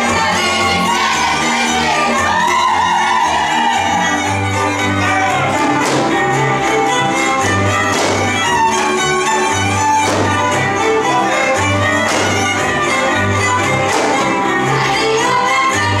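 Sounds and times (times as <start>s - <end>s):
folk dance music with fiddles: 0.0s - 16.0s.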